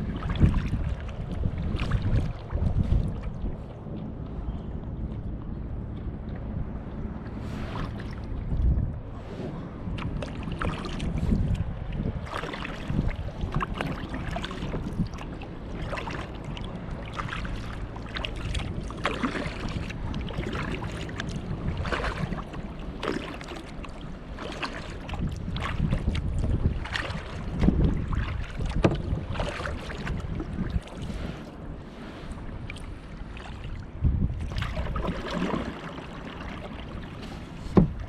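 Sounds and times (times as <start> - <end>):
paddle splashing in water: 0.0 - 4.3, 5.9 - 38.0
wind buffeting microphone: 0.0 - 38.0.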